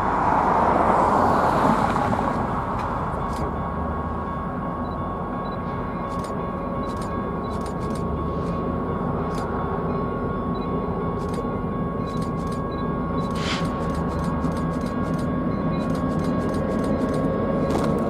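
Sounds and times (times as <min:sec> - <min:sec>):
distant diesel train rumbling: 0:00.0 - 0:18.0.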